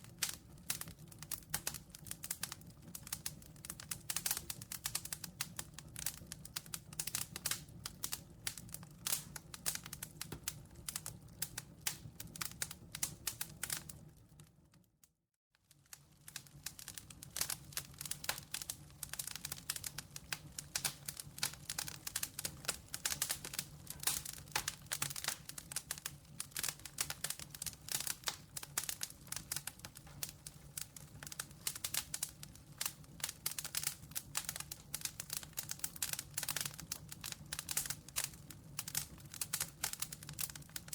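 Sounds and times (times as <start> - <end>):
campfire crackling and popping: 0.0 - 14.9, 15.6 - 40.9.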